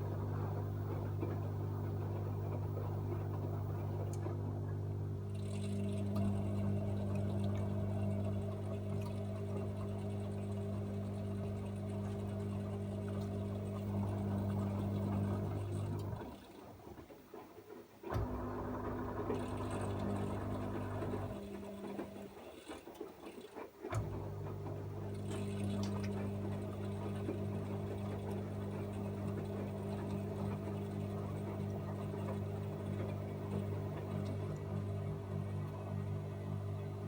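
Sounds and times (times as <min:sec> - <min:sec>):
washing machine humming: 0:00.0 - 0:37.0.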